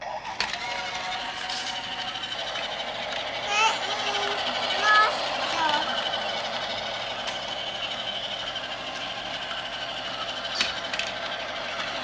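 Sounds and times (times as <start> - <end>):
model train whirring: 0.0 - 12.0.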